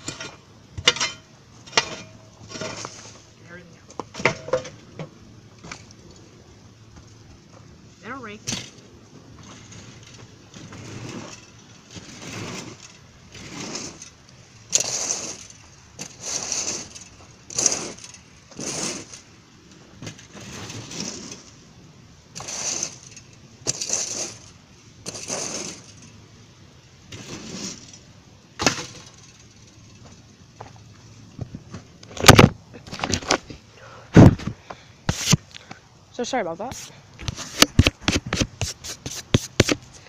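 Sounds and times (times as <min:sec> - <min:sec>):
rake scraping sandy soil: 0:00.0 - 0:04.8, 0:05.6 - 0:31.6, 0:35.0 - 0:35.6, 0:36.2 - 0:40.0.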